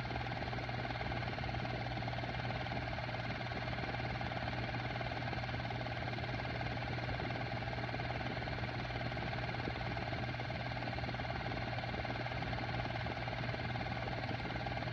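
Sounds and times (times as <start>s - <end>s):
projector motor hum: 0.0s - 14.9s.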